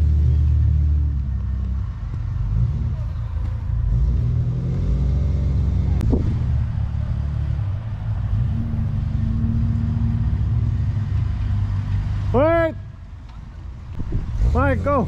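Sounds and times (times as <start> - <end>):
off-road engines revving: 0.0 - 15.0
truck passing close: 0.0 - 15.0.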